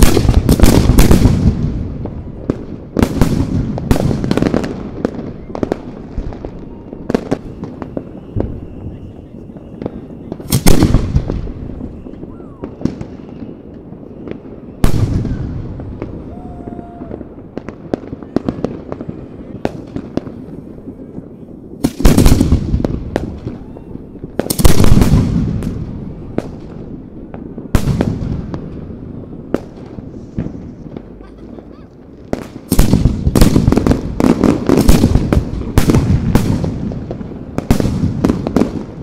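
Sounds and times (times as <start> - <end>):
firework cracks and crackle: 0.0 - 39.0
firework shells booming: 0.0 - 39.0.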